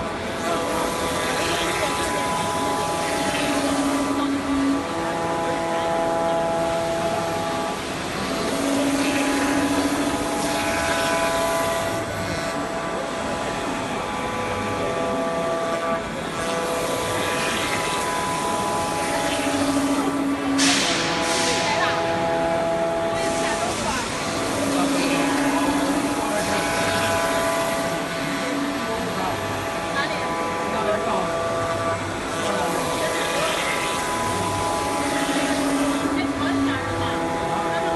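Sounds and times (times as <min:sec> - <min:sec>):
cnc router whine: 0:00.0 - 0:37.9
low machine tone: 0:00.0 - 0:37.9.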